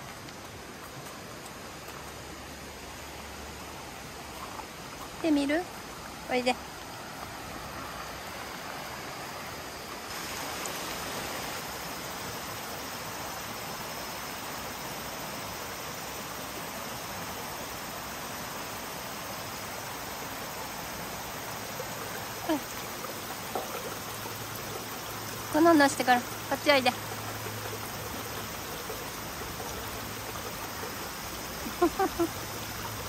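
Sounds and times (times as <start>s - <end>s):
stream flowing over rocks: 0.0s - 33.0s.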